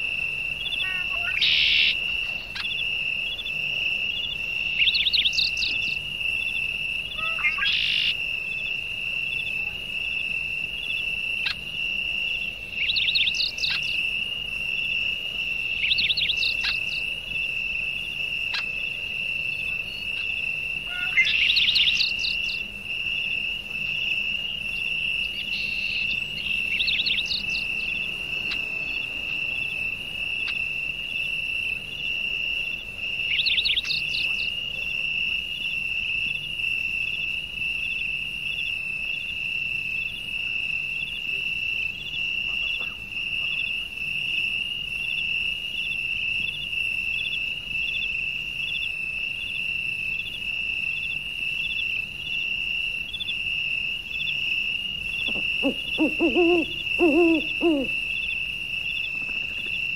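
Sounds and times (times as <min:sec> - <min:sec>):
high-pitched insect trill: 0:00.0 - 0:59.9.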